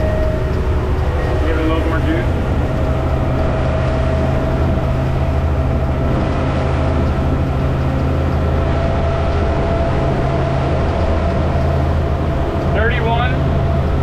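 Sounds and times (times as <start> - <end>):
outboard motors running: 0.0 - 14.0
water rushing: 0.0 - 14.0.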